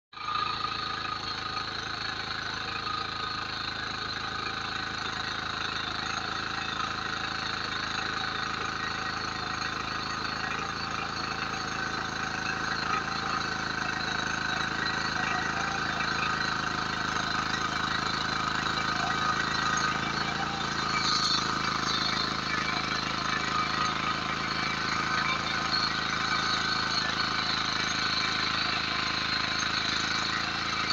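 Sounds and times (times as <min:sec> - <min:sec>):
power tiller engine running: 0:00.1 - 0:30.9
tines churning soil: 0:00.2 - 0:30.9.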